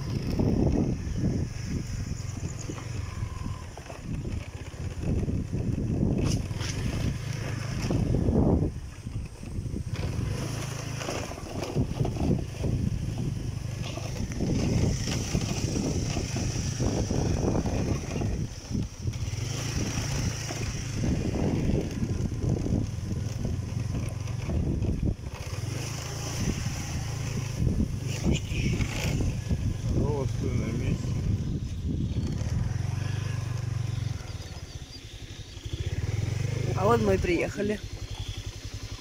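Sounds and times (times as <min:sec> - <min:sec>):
motorbike engine running: 0:00.0 - 0:39.0
wind on microphone: 0:00.0 - 0:39.0.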